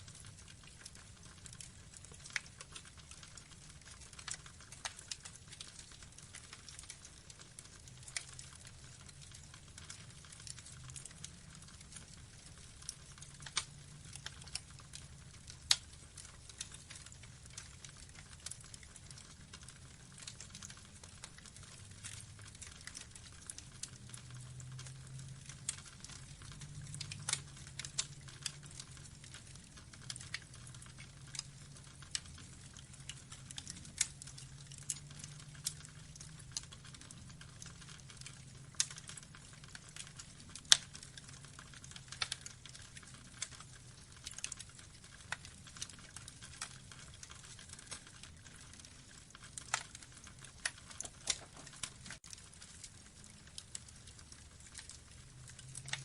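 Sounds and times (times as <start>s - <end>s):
log fire crackling and popping: 0.0s - 56.0s.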